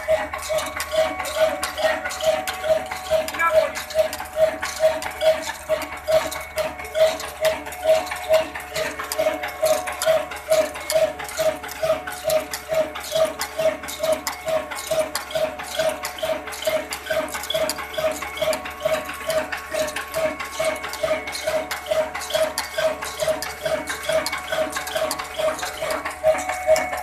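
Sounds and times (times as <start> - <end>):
single-cylinder diesel engine running: 0.0 - 27.0.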